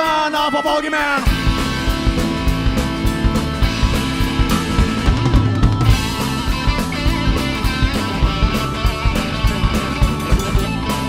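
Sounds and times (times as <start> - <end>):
driving drum beat: 0.0 - 11.0
electric guitar playing: 0.8 - 11.0.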